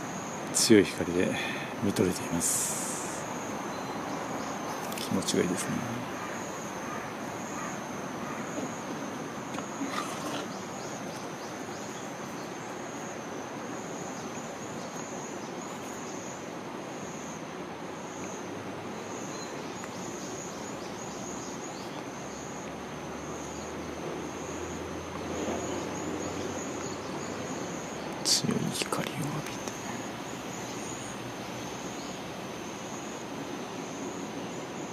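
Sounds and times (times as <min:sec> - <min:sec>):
background hiss: 0:00.0 - 0:34.9
insects trilling: 0:00.0 - 0:34.9.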